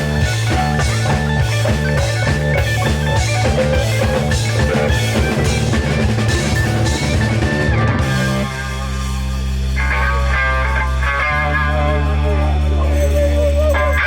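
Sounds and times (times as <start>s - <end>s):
bass: 0.0s - 14.0s
drum kit: 0.0s - 14.0s
electric guitar: 0.0s - 14.0s.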